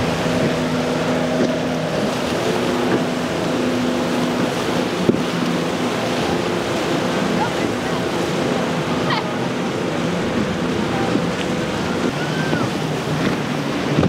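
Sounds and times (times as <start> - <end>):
outboard motor running: 0.0 - 14.0
rush of spray and surf: 0.0 - 14.0.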